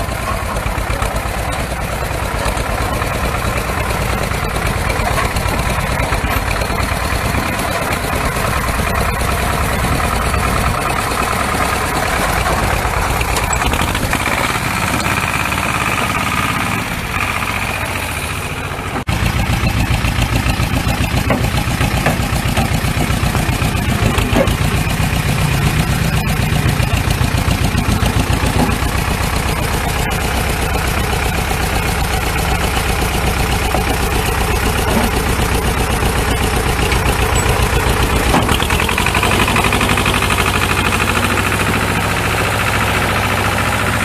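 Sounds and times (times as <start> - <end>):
tractor diesel engine chugging: 0.0 - 44.0.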